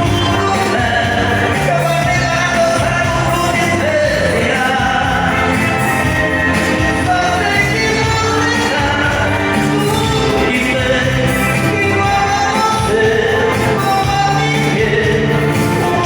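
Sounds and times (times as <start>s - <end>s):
dance music with bass and beat: 0.0s - 16.0s
person singing: 0.0s - 16.0s.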